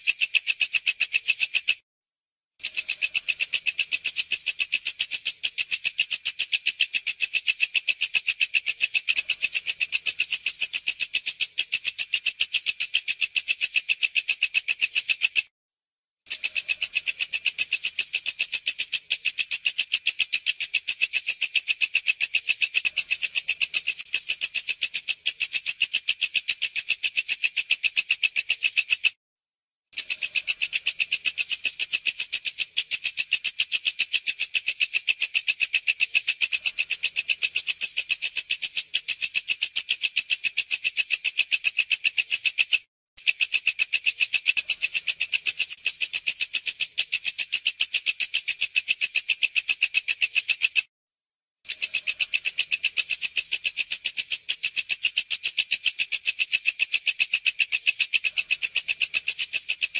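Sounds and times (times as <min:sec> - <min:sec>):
bush cricket singing: 0:00.0 - 0:01.8, 0:02.6 - 0:15.4, 0:16.3 - 0:29.1, 0:30.0 - 0:50.8, 0:51.7 - 0:59.9.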